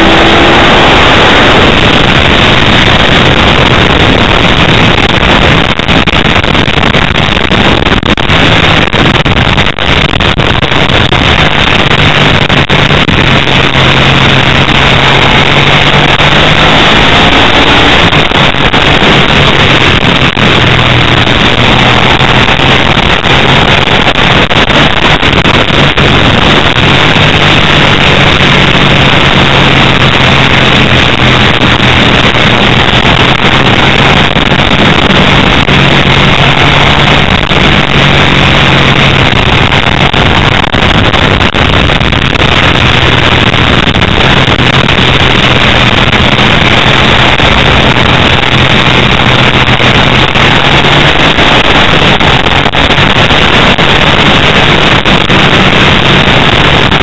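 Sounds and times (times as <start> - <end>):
motorcycle engine at racing revs: 0.0 - 57.0
wind on microphone: 0.0 - 57.0.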